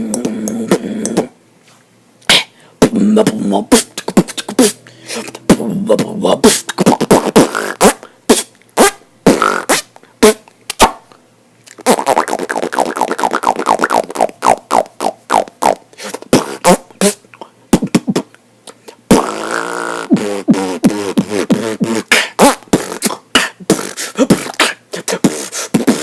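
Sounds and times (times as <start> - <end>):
beatboxing: 0.0 - 1.4, 2.2 - 26.0.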